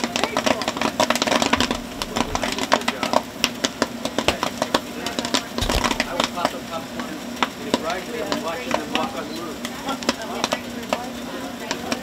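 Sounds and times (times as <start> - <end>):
popcorn machine humming: 0.0 - 12.0
popcorn popping: 0.0 - 12.0.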